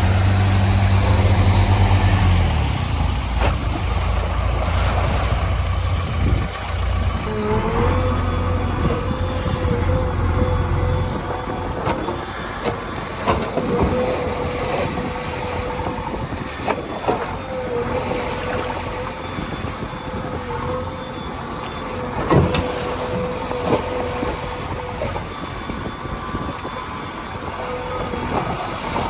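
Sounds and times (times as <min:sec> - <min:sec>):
diesel engine running with whine: 0:00.0 - 0:29.0.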